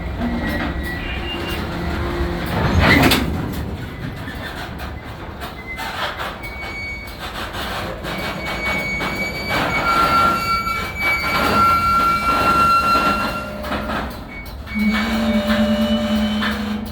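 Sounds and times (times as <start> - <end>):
freight train rumbling on rails: 0.0 - 16.9
high wheel squeal: 0.1 - 3.2, 3.9 - 16.9.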